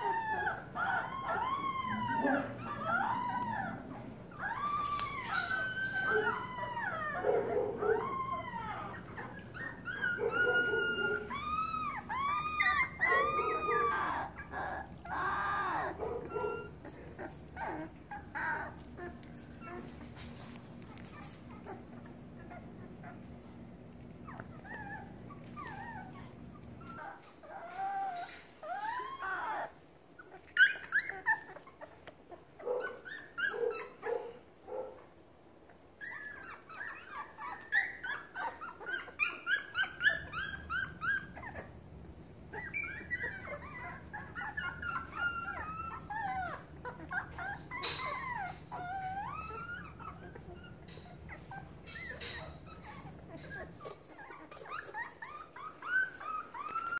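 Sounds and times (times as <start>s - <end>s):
puppies whimpering and crying: 0.0s - 56.9s
puppies yelping: 0.0s - 56.9s.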